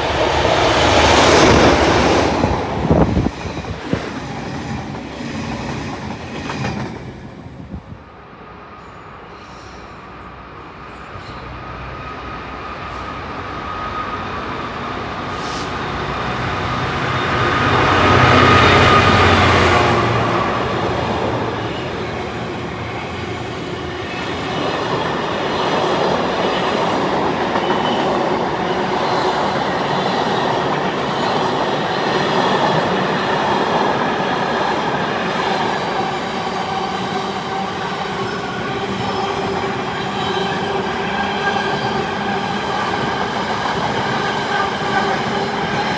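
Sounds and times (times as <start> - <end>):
squealing train wheels: 8.7 - 45.9.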